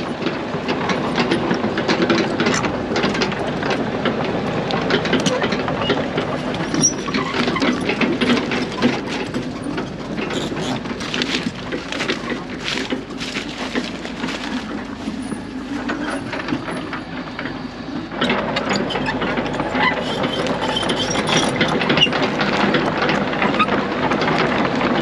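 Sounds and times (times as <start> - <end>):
excavator diesel engine running: 0.0 - 25.0
metallic rattling and clanking: 0.0 - 25.0.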